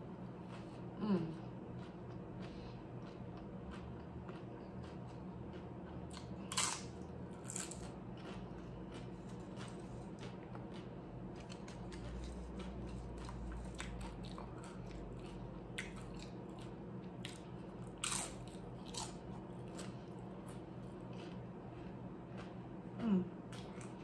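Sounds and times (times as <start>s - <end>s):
steady low hum: 0.0s - 24.0s
chips crunching while chewing: 1.7s - 22.6s.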